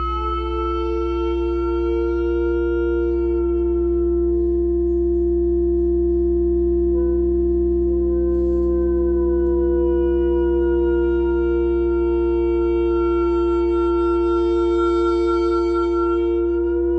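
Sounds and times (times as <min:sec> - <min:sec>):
electronic drone: 0:00.0 - 0:16.9
low hum: 0:00.0 - 0:16.9
wavering woodwind tone: 0:00.0 - 0:16.9.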